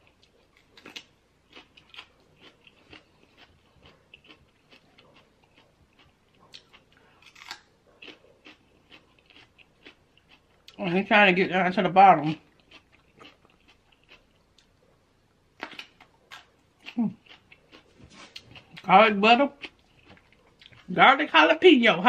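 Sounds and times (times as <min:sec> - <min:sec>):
chewing crisp pepper: 0:00.0 - 0:11.1, 0:12.2 - 0:15.0, 0:15.6 - 0:21.0.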